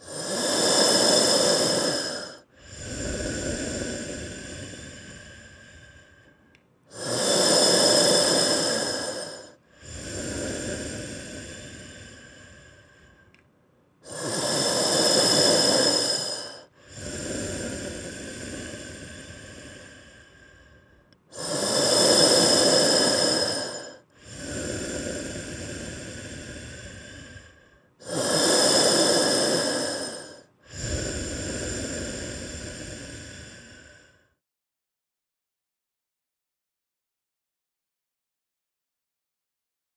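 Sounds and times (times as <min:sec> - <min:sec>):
slow heavy breathing: 0:00.0 - 0:34.4.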